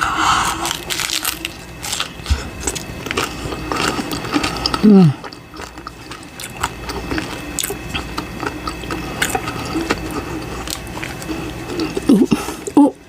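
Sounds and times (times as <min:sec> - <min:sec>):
crunchy chewing crackles: 0:00.4 - 0:13.0.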